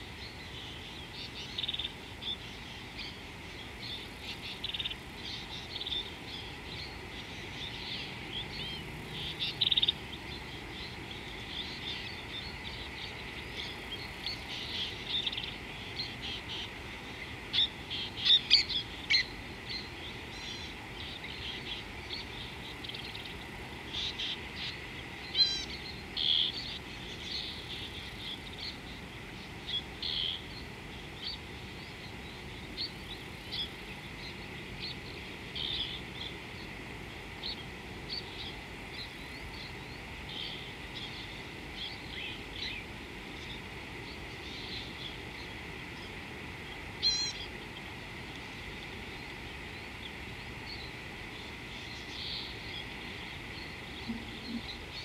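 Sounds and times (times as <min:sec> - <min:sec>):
birds chirping: 0:00.0 - 0:55.0
steady high hum: 0:00.0 - 0:55.0.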